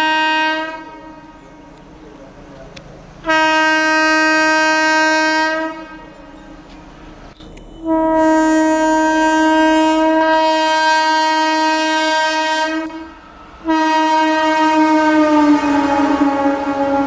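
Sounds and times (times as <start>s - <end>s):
locomotive horn blasts: 0.0s - 1.8s, 3.2s - 6.3s, 7.6s - 17.0s
train rumble: 0.0s - 17.0s.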